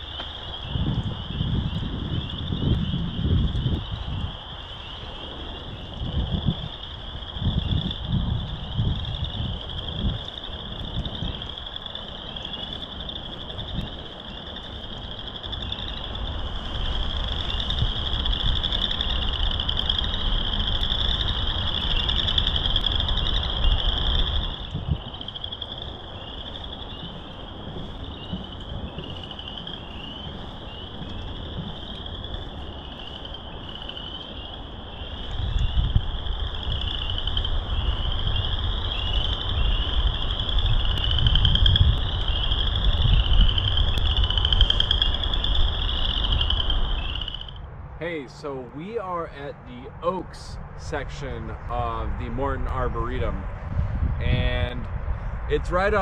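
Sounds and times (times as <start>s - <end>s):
chorus of frogs trilling: 0.0s - 56.0s
wind rumble on microphone: 0.0s - 56.0s.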